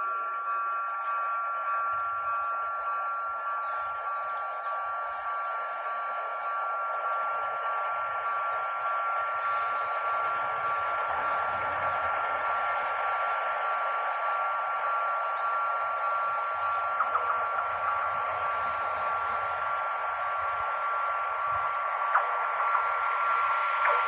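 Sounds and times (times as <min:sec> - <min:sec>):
high-pitched whine: 0:00.0 - 0:24.0.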